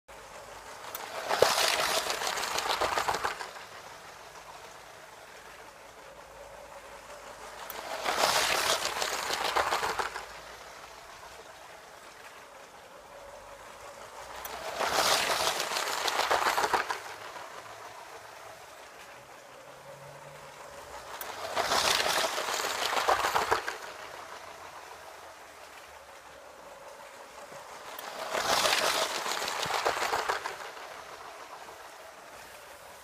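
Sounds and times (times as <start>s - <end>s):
toy train wheels and motor clattering: 0.1s - 33.0s.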